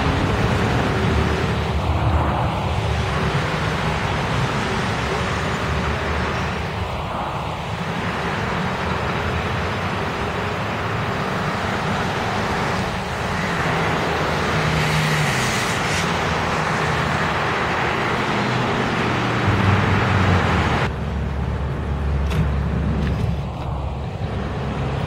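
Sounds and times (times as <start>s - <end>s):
cars passing: 0.0s - 25.0s
heavy low engine drone: 0.0s - 25.0s.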